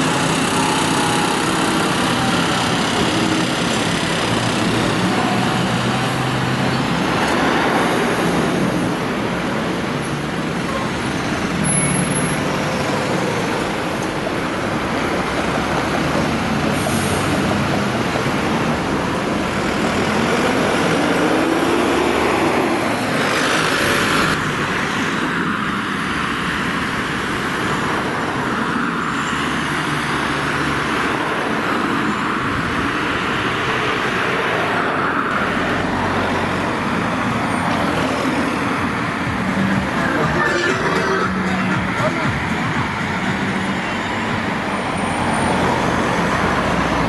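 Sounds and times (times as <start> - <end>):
diesel engines passing: 0.0 - 47.0
tyre and road noise: 0.0 - 47.0.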